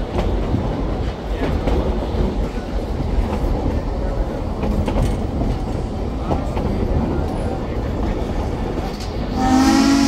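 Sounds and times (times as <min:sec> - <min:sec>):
wheels clacking over rail joints: 0:00.0 - 0:09.3
train wheels rumbling on track: 0:00.0 - 0:10.0.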